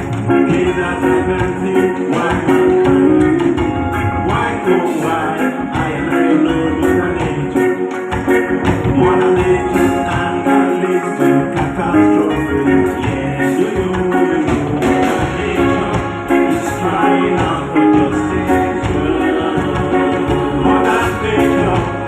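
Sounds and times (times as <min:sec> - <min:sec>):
guitar: 0:00.0 - 0:22.0
steady beat: 0:00.0 - 0:22.0.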